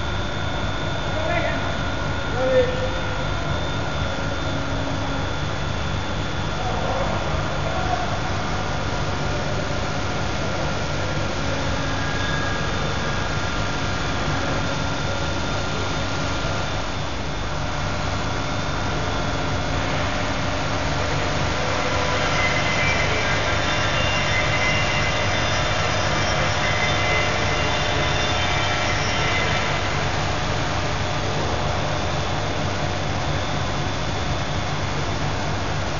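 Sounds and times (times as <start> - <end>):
stone saw humming and whining: 0.0 - 35.7.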